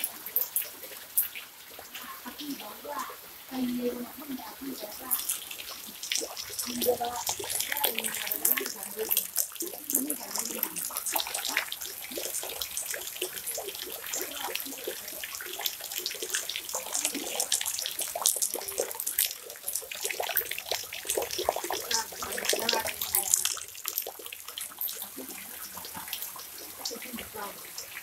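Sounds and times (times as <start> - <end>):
floodwater flowing and splashing: 0.0 - 28.0.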